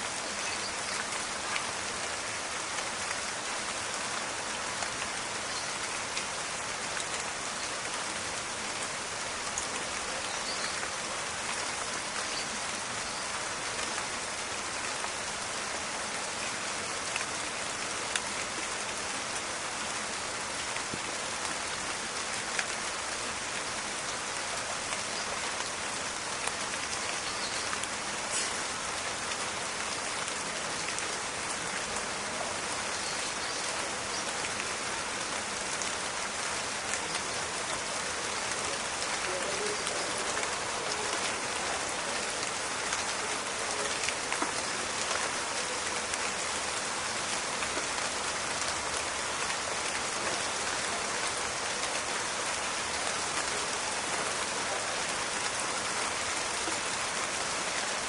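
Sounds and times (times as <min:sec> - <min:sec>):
rain falling in a forest: 0:00.0 - 0:58.0.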